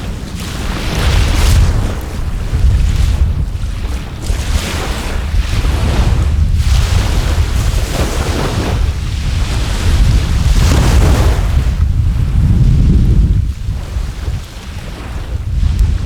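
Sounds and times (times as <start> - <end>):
strong wind buffeting microphone: 0.0 - 16.0
surf washing in: 0.0 - 16.0.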